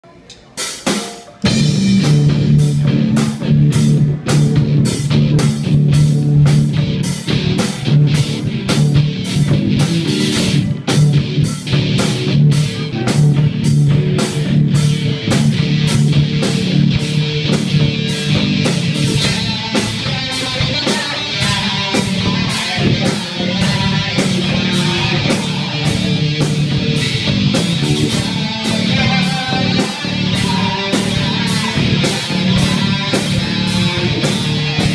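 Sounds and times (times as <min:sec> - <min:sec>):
rock band playing live: 0:00.3 - 0:34.9
electric guitar riff: 0:00.8 - 0:34.9.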